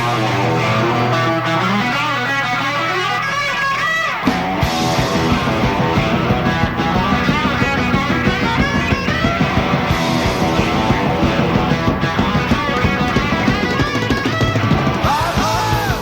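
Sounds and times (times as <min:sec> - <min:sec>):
bass and drums: 0:00.0 - 0:16.0
electric guitars: 0:00.0 - 0:16.0.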